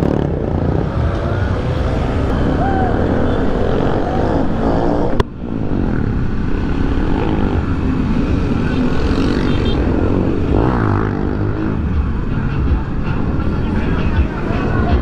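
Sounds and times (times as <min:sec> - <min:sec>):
other motorcycle engines: 0:00.0 - 0:15.0.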